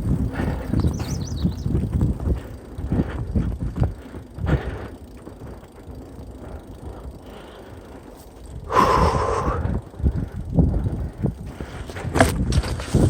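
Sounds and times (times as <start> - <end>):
mountain bike rattling over dirt trail: 0.0 - 13.0.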